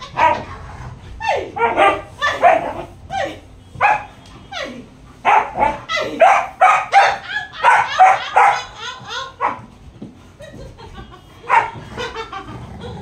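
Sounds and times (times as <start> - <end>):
dogs barking and yipping: 0.0 - 0.7, 1.3 - 13.0.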